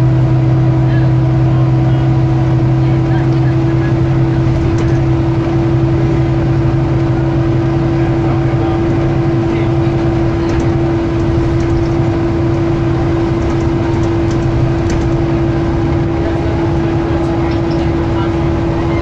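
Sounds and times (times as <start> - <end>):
bus engine running: 0.0 - 19.0
road noise: 0.0 - 19.0.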